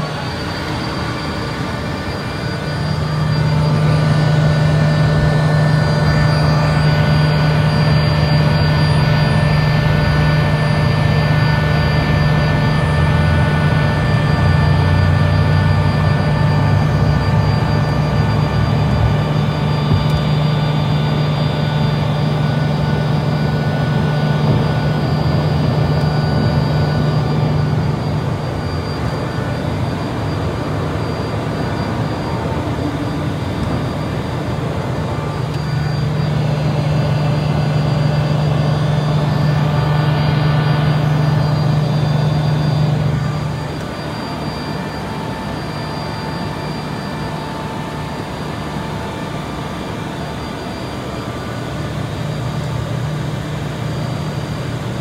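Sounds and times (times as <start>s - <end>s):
jet cabin engine drone: 0.0s - 55.0s
jet engine whining tones: 0.0s - 55.0s.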